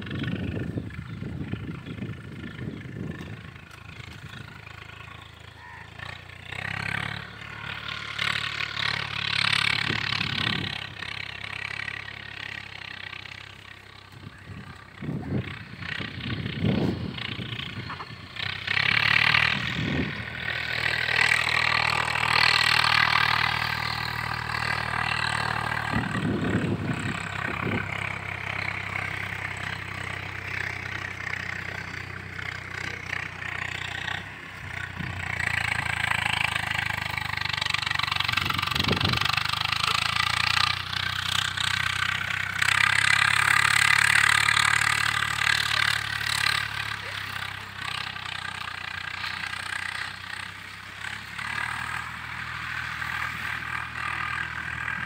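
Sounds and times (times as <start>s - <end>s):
low engine hum: 0.0s - 55.0s.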